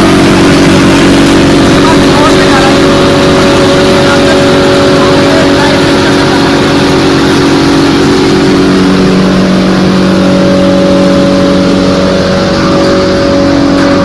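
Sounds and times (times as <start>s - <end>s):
low hum: 0.0s - 14.0s
machinery droning: 0.0s - 14.0s.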